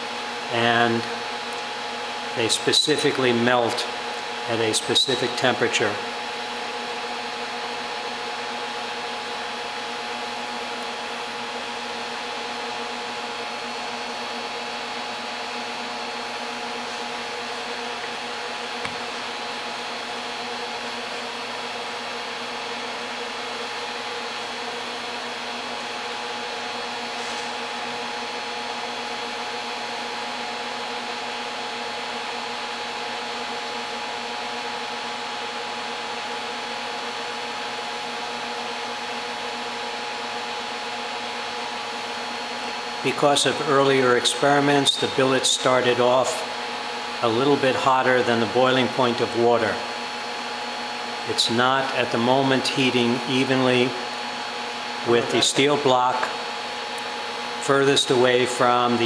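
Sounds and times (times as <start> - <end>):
induction heater whirring hiss: 0.0 - 59.0.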